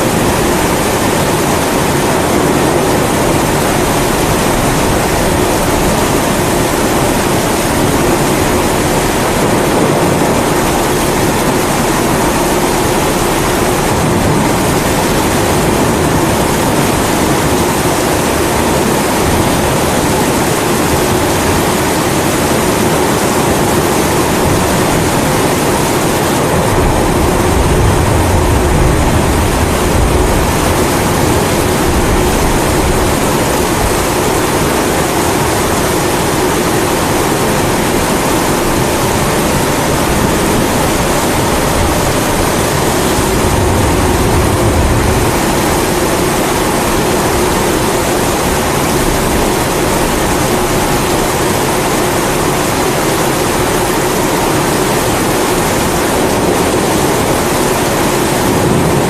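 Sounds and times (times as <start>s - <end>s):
low rumble of thunder: 0.0s - 21.6s, 23.0s - 52.8s
rain: 0.0s - 59.0s.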